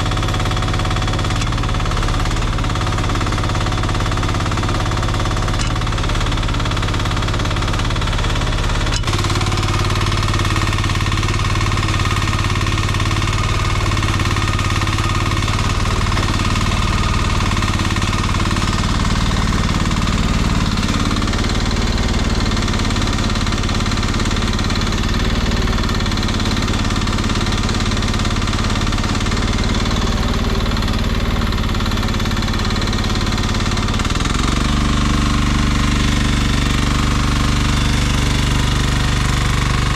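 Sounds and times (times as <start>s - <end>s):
mini excavator engine running: 0.0s - 39.9s.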